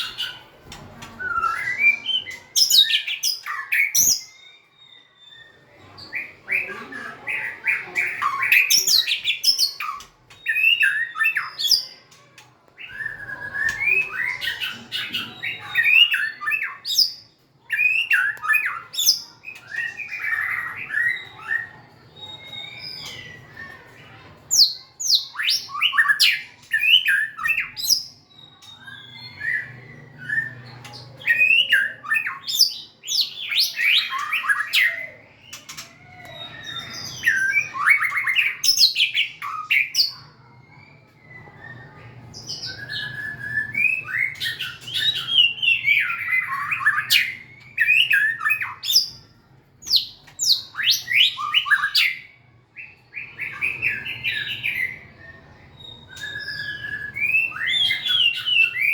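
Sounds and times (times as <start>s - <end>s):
bird singing whistled phrases: 6.2s - 12.0s, 12.8s - 58.9s.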